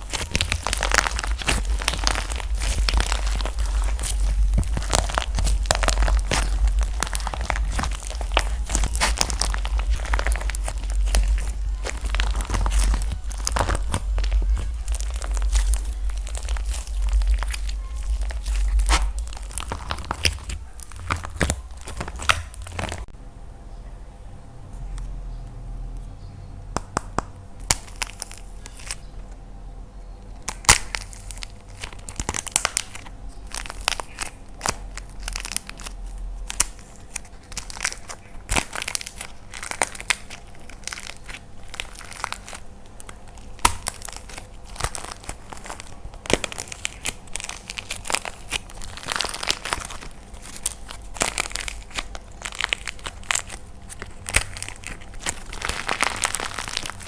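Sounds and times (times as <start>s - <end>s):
dried clay cracking and crunching: 0.0s - 23.1s, 25.9s - 57.0s.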